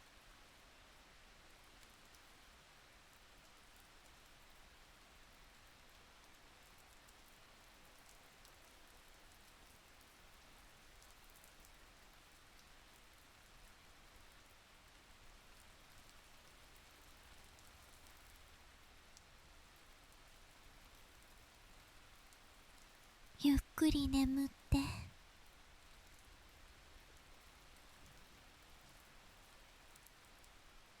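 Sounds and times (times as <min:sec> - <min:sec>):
faint steady rain: 0:00.0 - 0:31.0.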